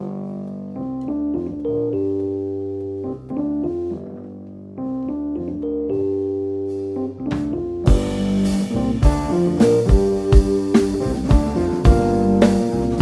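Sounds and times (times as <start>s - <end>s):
electric piano playing chords: 0.0s - 13.0s.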